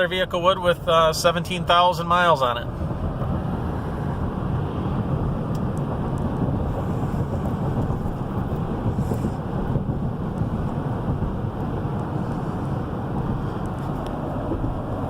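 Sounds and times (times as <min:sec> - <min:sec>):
car engine cruising: 0:00.0 - 0:15.0
road and tyre noise: 0:00.0 - 0:15.0.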